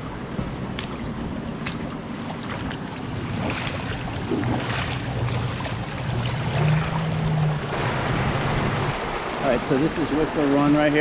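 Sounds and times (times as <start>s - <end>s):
low steady hum: 0.0s - 11.0s
rushing creek water: 0.0s - 11.0s.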